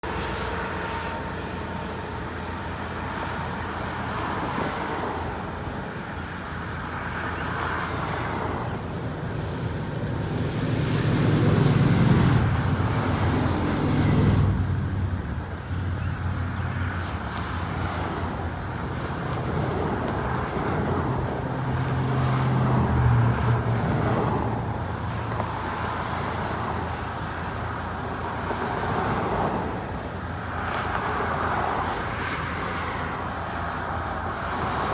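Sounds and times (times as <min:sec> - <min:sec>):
cars driving past: 0:02.2 - 0:34.9.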